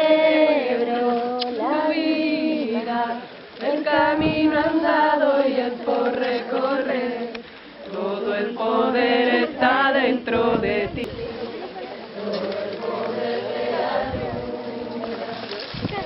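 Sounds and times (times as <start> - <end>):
blend of voices: 0.0 - 16.0
women singing a chant: 0.0 - 16.0.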